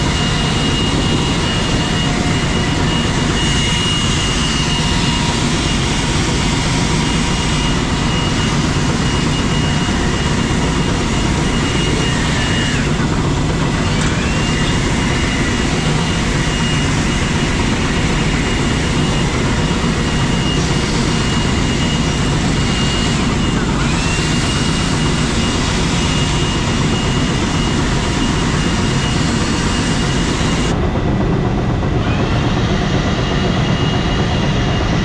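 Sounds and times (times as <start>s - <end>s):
farm machinery running: 0.0s - 35.0s
high mechanical whine: 0.0s - 35.0s.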